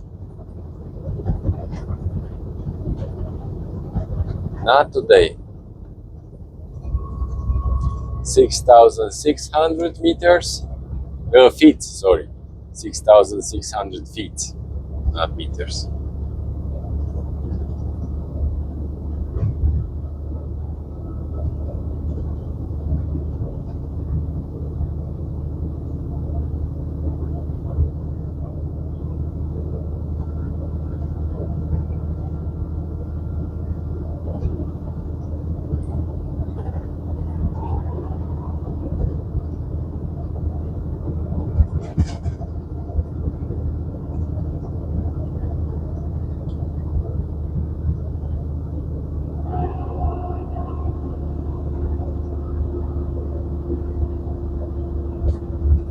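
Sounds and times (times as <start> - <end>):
road noise: 0.0 - 55.9
truck diesel engine droning: 0.0 - 55.9.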